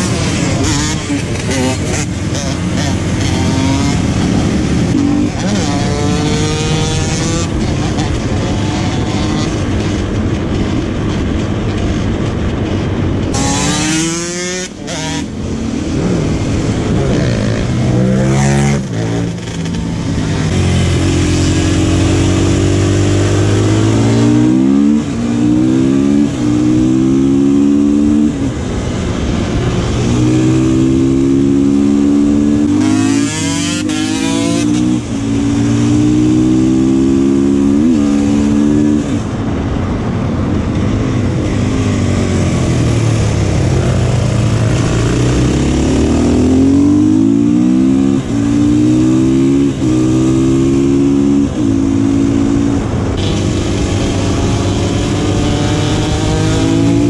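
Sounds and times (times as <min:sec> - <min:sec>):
motorcycle engine shifting gears: 0:00.0 - 0:40.0, 0:40.6 - 0:57.0
motorcycle revving hard nearby: 0:00.0 - 0:57.0
wind rush: 0:00.0 - 0:57.0.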